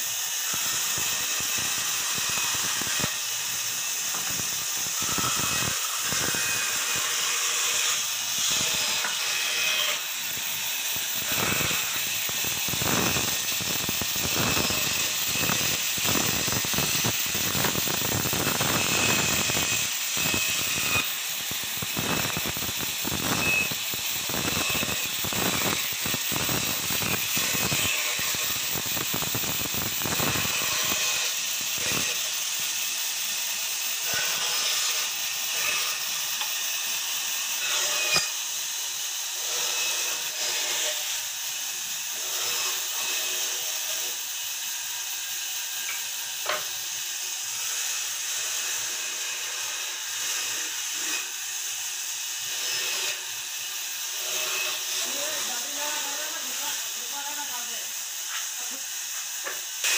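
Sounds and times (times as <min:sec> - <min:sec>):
band saw cutting wood: 0:00.0 - 0:59.9
band saw running: 0:00.0 - 0:59.9.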